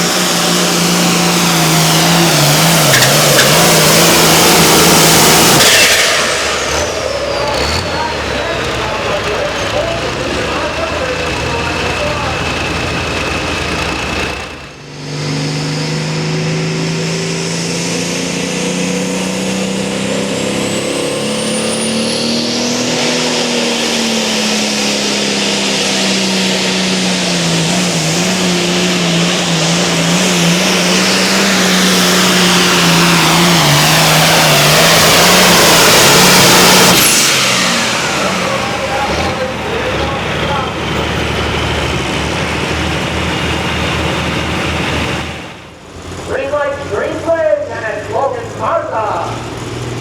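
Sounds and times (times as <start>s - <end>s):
engine at full throttle: 0.0s - 50.0s.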